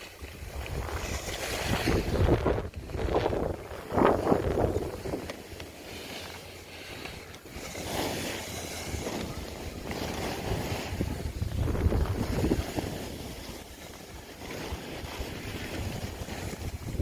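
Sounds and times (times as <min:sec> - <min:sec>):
wind buffeting microphone: 0:00.0 - 0:05.6, 0:08.1 - 0:17.0
skis scraping over snow: 0:00.0 - 0:17.0.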